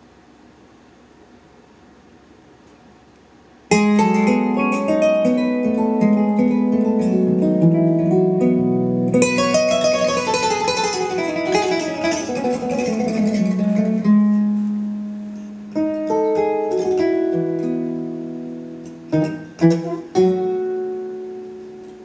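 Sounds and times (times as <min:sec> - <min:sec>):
low hiss: 0:00.0 - 0:22.0
plucked string music: 0:03.7 - 0:22.0.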